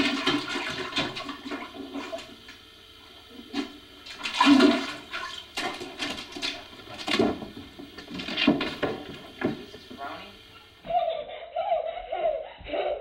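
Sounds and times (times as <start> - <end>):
dog splashing toilet water: 0.0 - 10.8.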